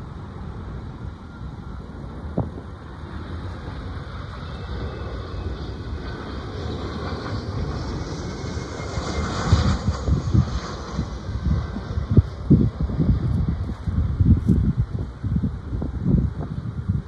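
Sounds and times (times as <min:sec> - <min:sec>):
jet engines hissing: 0:00.0 - 0:16.4
wind buffeting microphone: 0:00.0 - 0:17.0.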